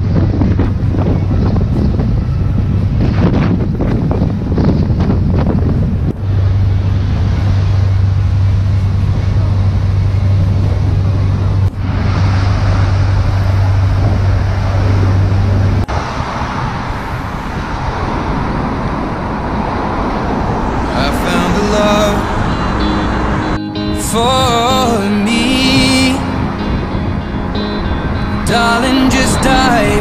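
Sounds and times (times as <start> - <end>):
boat engine droning: 0.0 - 30.0
road traffic: 0.0 - 30.0
wind noise on microphone: 0.0 - 30.0.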